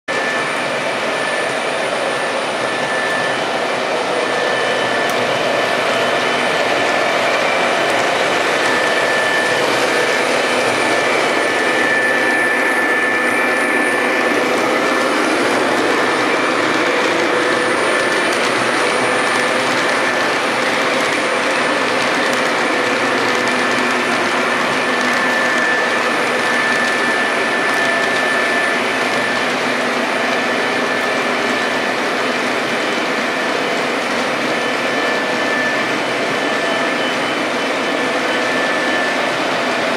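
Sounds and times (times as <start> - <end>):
model train wheels rolling on track: 1.7 - 39.9.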